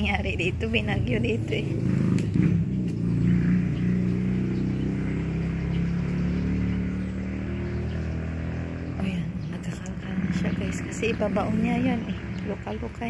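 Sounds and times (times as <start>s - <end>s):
low steady engine hum: 0.0s - 13.0s.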